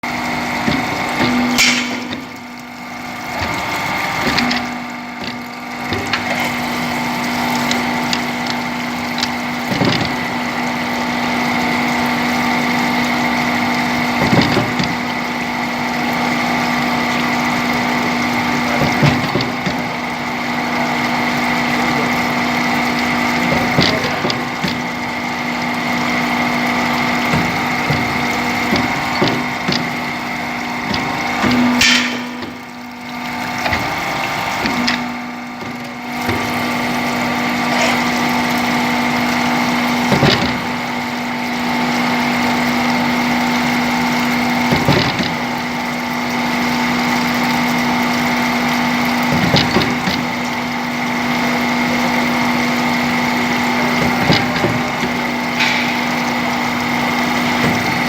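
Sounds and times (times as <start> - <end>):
drilling machine motor hum: 0.0 - 58.0
machine knocking: 0.5 - 58.0.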